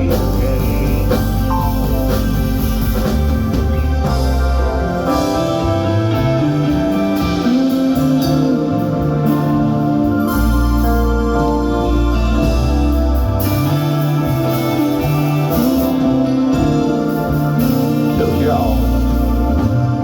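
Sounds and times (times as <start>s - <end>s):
live band playing soul ballad: 0.0s - 20.0s.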